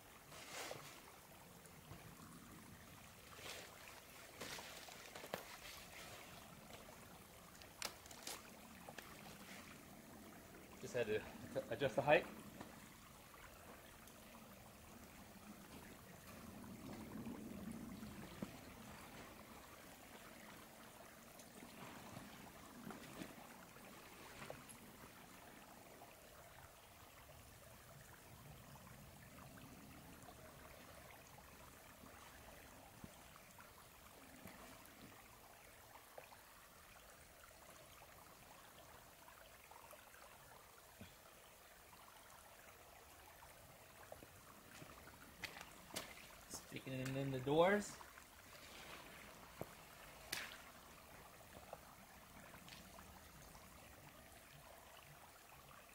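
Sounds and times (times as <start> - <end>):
stream trickling over rocks: 0.0 - 55.9.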